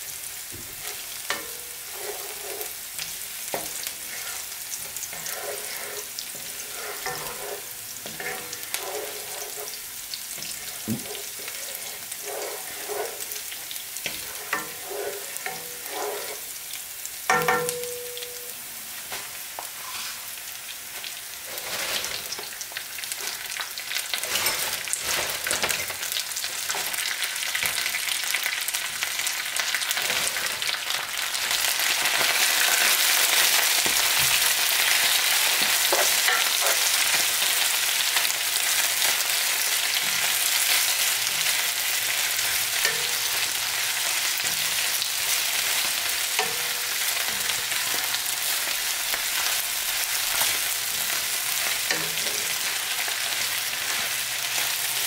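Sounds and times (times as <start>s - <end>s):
food sizzling in hot oil: 0.0s - 55.0s
wooden spoon scraping a pan: 0.5s - 16.6s, 19.6s - 20.3s, 21.4s - 28.1s, 29.6s - 55.0s.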